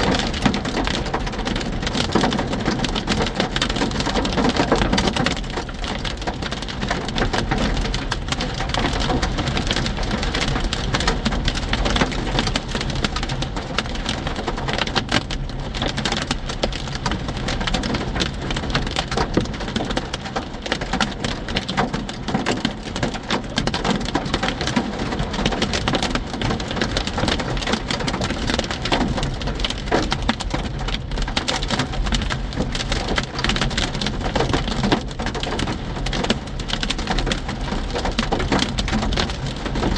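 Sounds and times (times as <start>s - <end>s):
hail pelting a vehicle: 0.0s - 39.9s.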